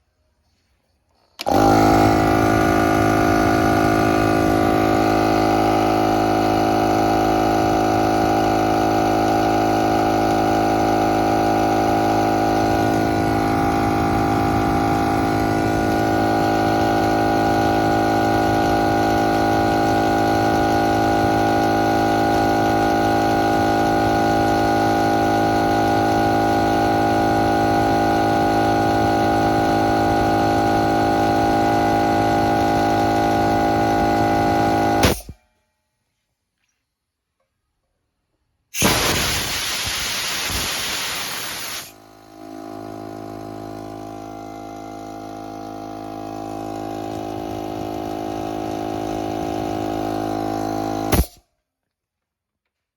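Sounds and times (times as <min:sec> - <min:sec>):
air compressor running: 0:00.5 - 0:35.4, 0:38.8 - 0:51.4.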